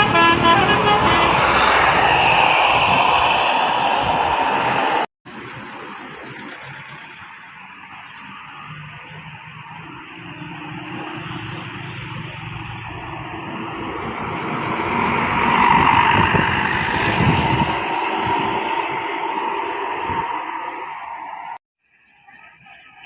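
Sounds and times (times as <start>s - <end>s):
bus driving past: 0.0s - 5.1s, 5.9s - 21.6s.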